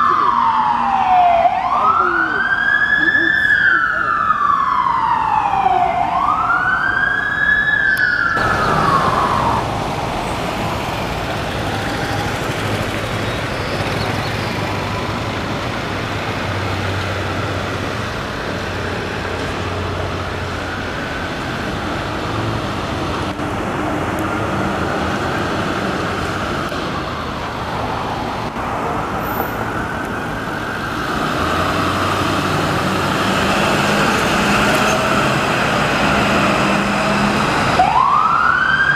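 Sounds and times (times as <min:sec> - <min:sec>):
fire truck siren wailing: 0:00.0 - 0:38.9.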